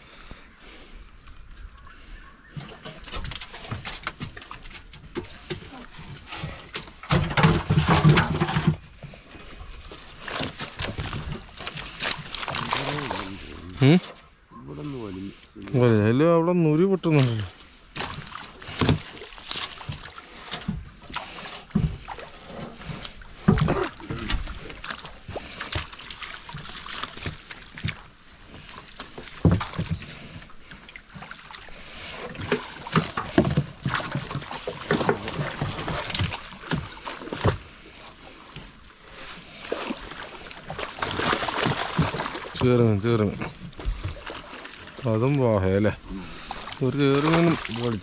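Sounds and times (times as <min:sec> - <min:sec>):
water splashing around boat: 0:00.0 - 0:48.0.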